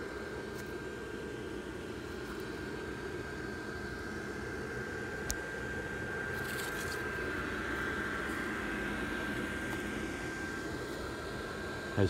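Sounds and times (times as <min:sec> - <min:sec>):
blower fan running: 0:00.0 - 0:12.0.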